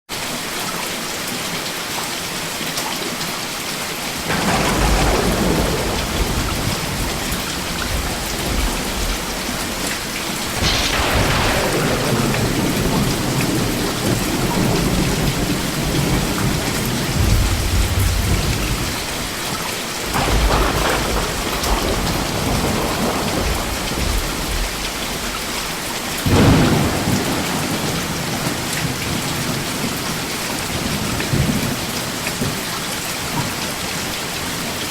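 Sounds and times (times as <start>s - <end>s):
heavy rain hissing: 0.2s - 34.9s
thunder rumbling: 4.2s - 32.6s.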